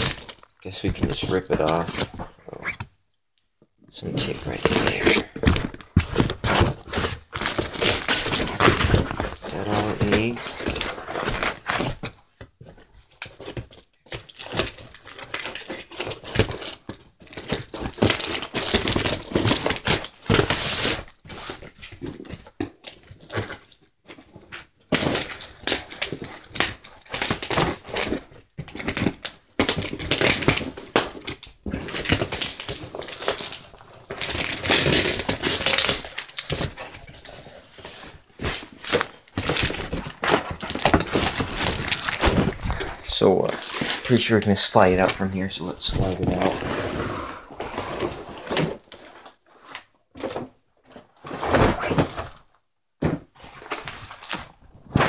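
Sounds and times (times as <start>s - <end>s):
packaging crinkling and ripping: 0.0s - 2.9s, 4.0s - 12.2s, 13.1s - 47.0s, 53.4s - 55.0s.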